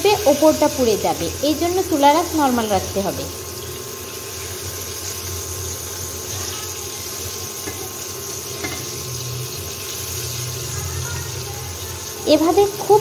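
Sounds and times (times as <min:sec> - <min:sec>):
hot oil sizzling and bubbling: 0:00.0 - 0:13.0.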